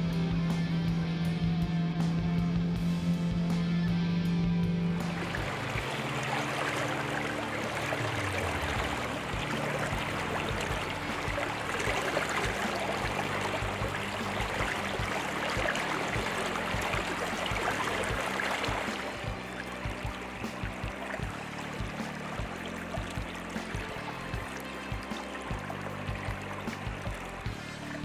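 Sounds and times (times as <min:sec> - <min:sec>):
river water rushing: 0:05.0 - 0:28.0.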